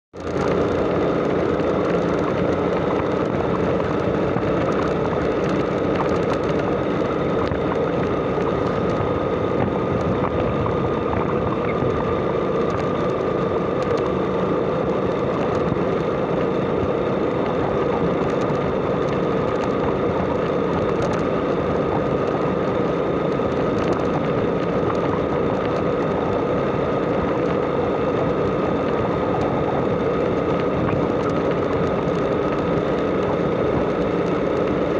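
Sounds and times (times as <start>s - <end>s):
motorcycle engine hum: 0.2s - 34.9s
steady rushing noise: 0.2s - 34.9s.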